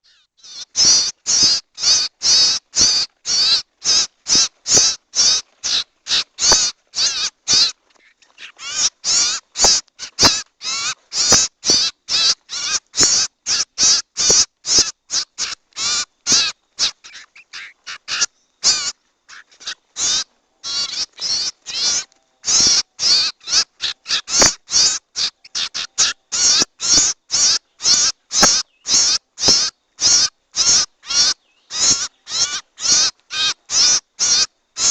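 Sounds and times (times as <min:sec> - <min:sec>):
bird harsh raspy calls: 0:00.0 - 0:34.9.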